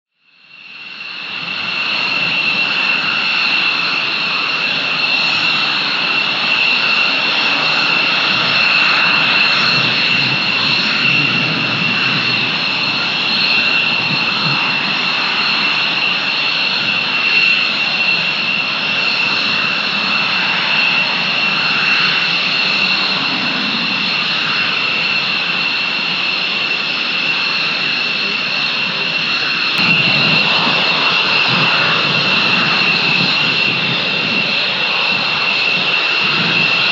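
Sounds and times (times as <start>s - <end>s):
high jet whine: 0.3s - 36.9s
jet engines roaring: 0.3s - 36.9s.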